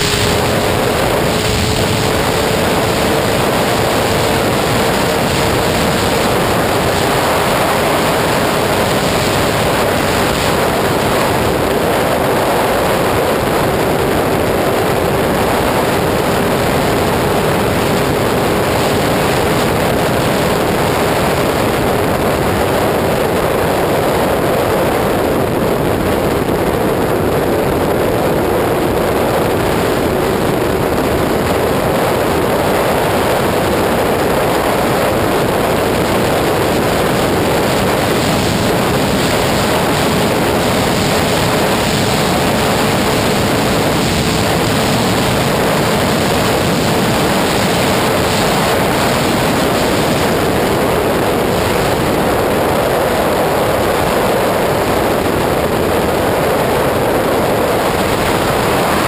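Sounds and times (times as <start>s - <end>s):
motorcycle engine: 0.0s - 59.0s
wind roaring over microphone: 0.0s - 59.0s.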